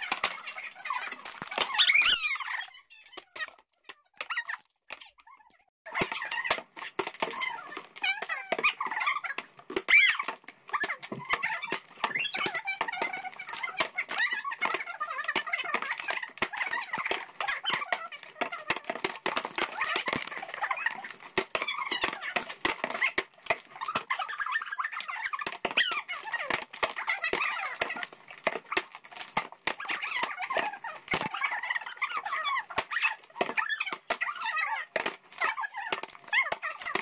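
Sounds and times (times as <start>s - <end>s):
plastic wrap crinkling: 0.0s - 37.0s.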